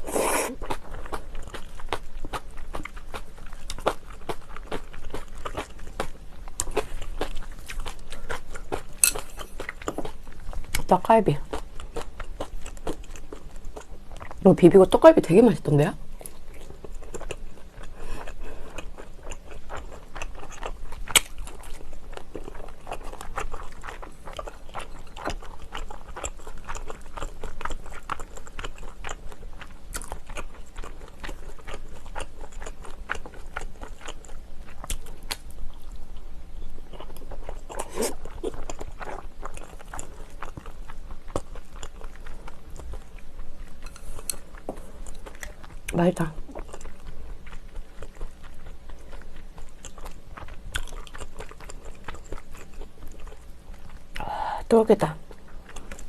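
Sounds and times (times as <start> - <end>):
person chewing food: 0.0 - 14.4, 16.0 - 54.4, 55.2 - 56.0.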